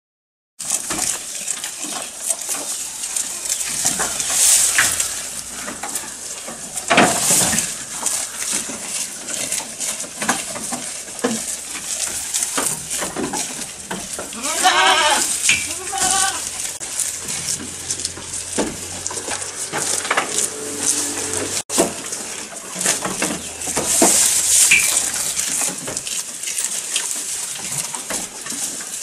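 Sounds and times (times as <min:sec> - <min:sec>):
goats chewing leaves: 0:00.6 - 0:29.0
leaves snapping: 0:00.6 - 0:29.0.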